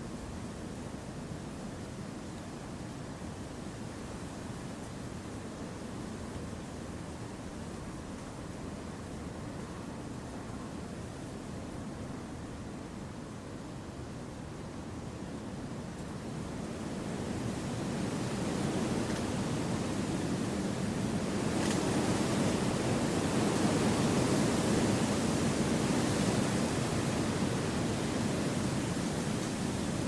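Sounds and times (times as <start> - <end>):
wind through forest trees: 0.0 - 30.0.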